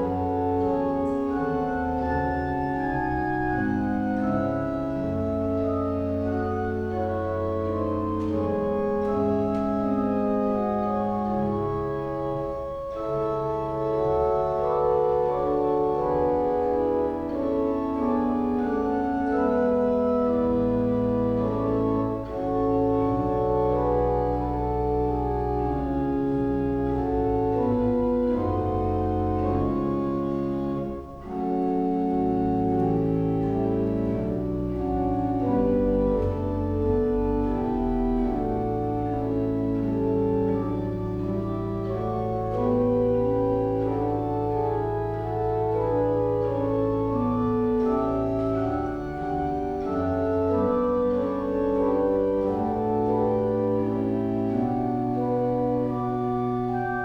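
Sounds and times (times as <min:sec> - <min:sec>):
church organ playing chords: 0:00.0 - 0:57.0.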